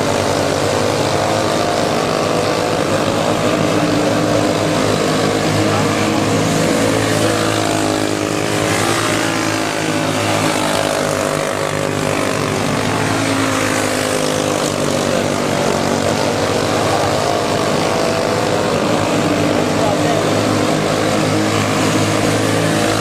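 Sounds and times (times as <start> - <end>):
go-kart engines revving: 0.0 - 23.0.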